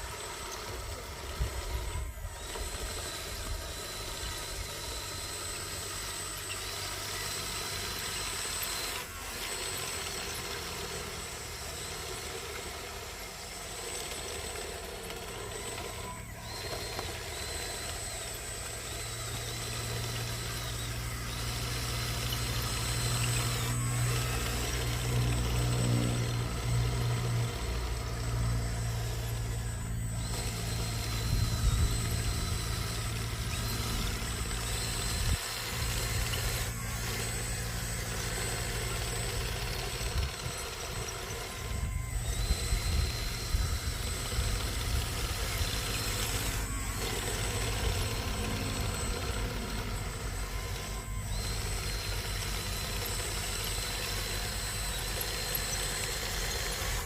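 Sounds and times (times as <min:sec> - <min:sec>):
model trucks engine-like hum: 0:00.0 - 0:57.0.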